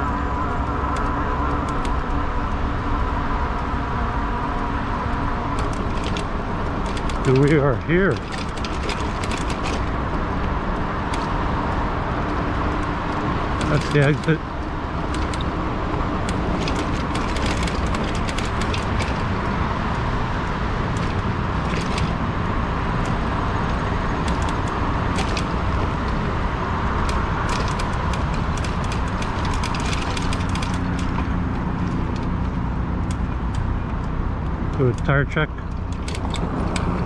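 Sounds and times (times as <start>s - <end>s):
tires humming on road: 0.0s - 37.0s
small clicks and rattles: 5.5s - 22.2s, 23.0s - 37.0s.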